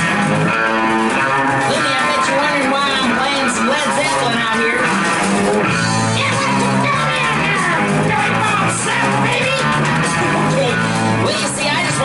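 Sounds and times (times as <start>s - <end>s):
rock music with guitar and bass: 0.0s - 12.0s.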